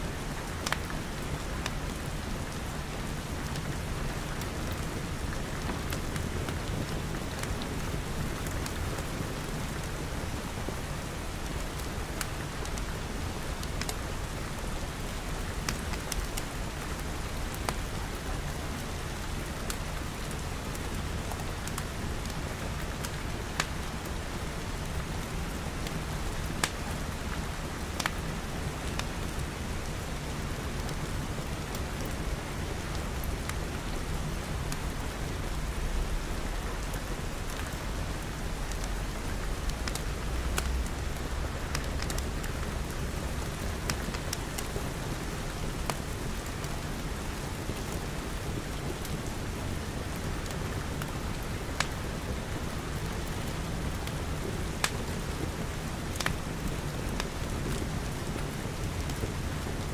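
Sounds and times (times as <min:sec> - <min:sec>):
rain pattering on glass: 0:00.3 - 0:59.9.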